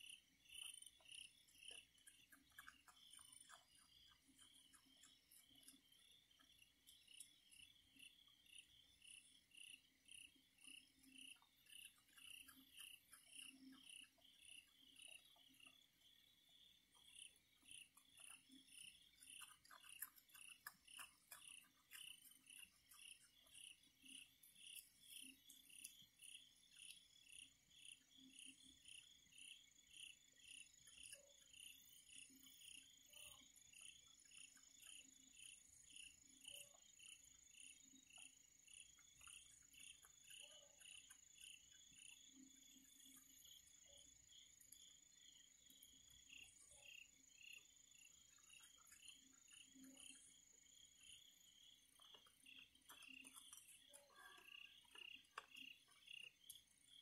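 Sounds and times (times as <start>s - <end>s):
crickets chirping: 0.0s - 57.0s
high insect trill: 0.0s - 57.0s.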